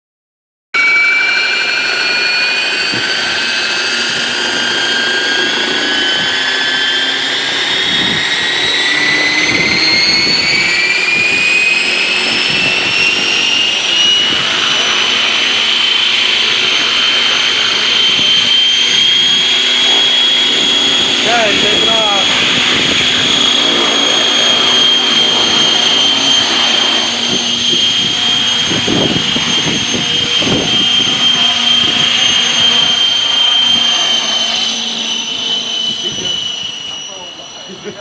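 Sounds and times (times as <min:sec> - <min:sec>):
toy helicopter motor whine: 0:00.8 - 0:38.0.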